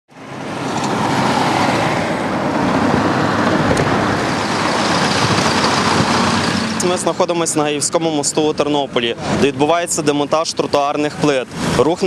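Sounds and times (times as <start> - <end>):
congested road traffic: 0.1 - 12.0.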